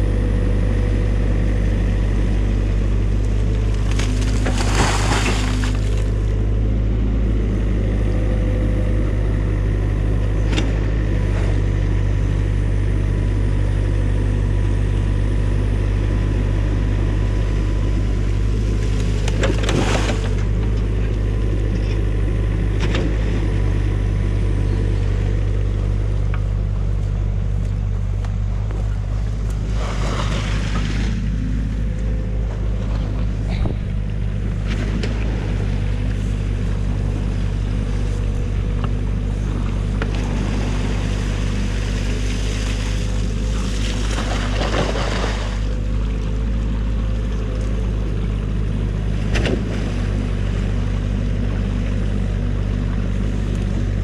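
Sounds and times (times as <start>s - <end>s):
diesel excavator engine running: 0.0s - 54.0s.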